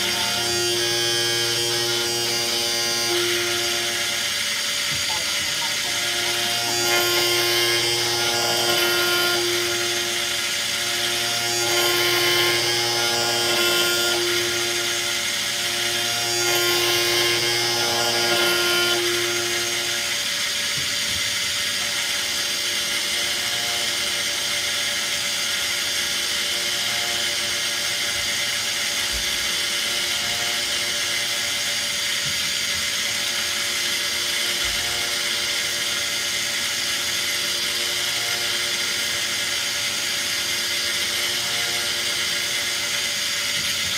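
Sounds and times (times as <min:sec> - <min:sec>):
lathe spindle whine: 0:00.0 - 0:43.9
machine hum: 0:00.0 - 0:43.9.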